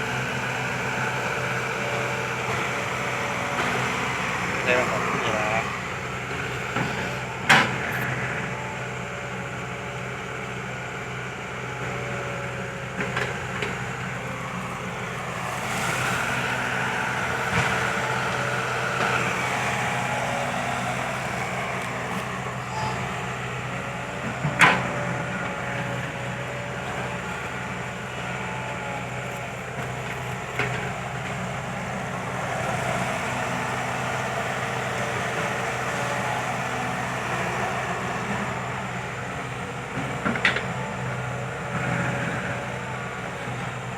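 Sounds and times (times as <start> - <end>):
hydraulic whine: 0.0 - 9.8, 11.8 - 43.9
excavator diesel engine: 0.0 - 43.9.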